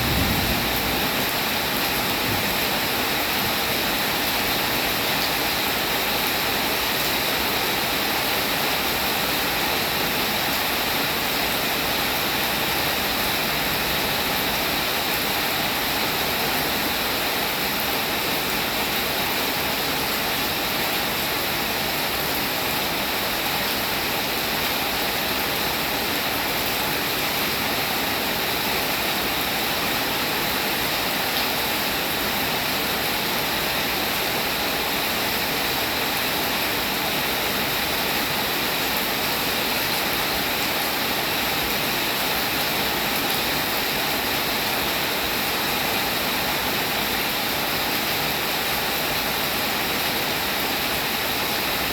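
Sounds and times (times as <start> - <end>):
steady rainfall: 0.0 - 51.9.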